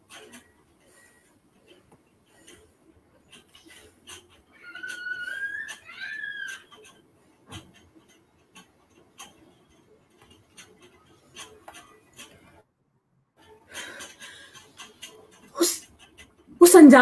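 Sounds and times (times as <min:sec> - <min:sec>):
faint clicks and ticks: 0:00.0 - 0:12.7, 0:13.4 - 0:16.9.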